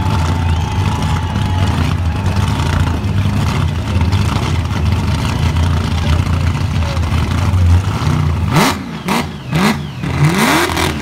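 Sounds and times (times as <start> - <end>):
engine at high revs: 0.0 - 11.0.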